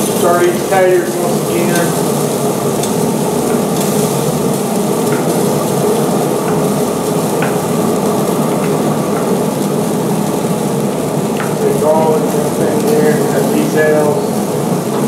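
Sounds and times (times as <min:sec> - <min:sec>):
potatoes sizzling in a skillet: 0:00.0 - 0:14.8.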